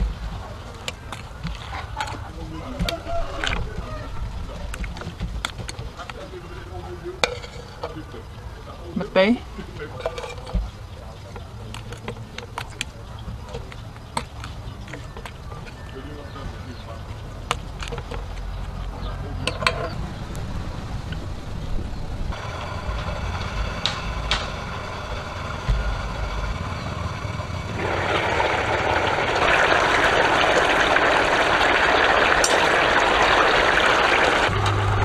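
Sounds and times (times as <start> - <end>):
pot boiling with steam hiss: 0.0 - 21.6, 22.3 - 35.0.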